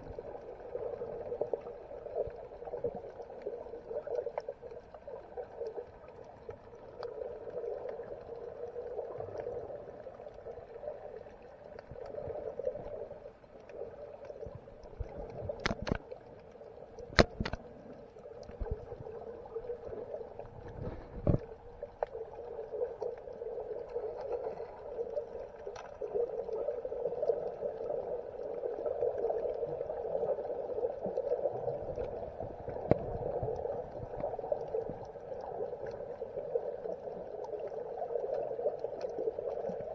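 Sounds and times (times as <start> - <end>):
muffled underwater gurgling rush: 0.0 - 39.9.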